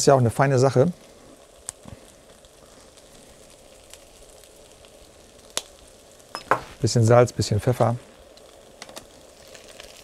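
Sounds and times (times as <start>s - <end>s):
potatoes sizzling in a pan: 0.0s - 10.0s.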